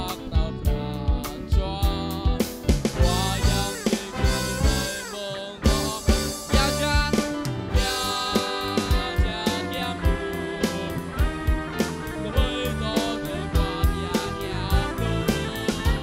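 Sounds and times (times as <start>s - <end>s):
electronic drum beats: 0.0s - 16.0s
keyboard notes: 0.0s - 16.0s.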